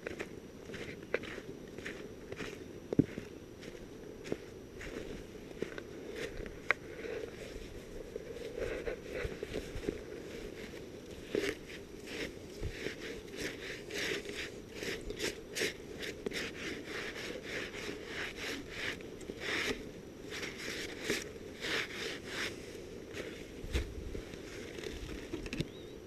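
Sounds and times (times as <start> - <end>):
footsteps crunching in snow: 0.0 - 25.3.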